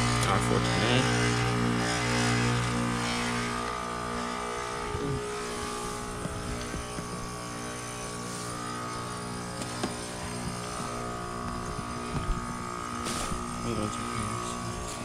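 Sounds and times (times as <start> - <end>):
heat pump unit humming: 0.0 - 15.0.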